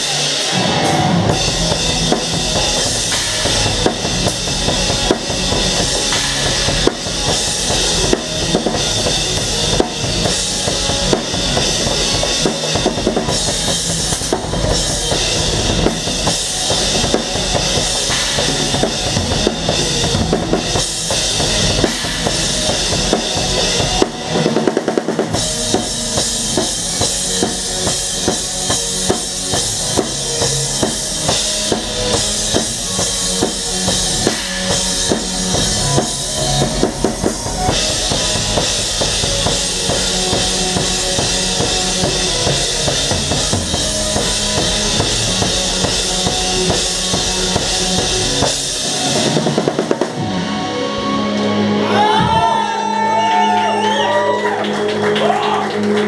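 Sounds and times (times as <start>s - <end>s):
drum kit played hard: 0.0s - 51.2s
live band playing: 0.0s - 56.0s.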